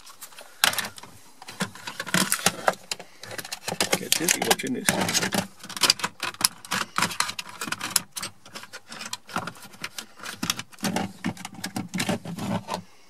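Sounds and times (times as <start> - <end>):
plastic clicking and rattling: 0.0 - 12.8.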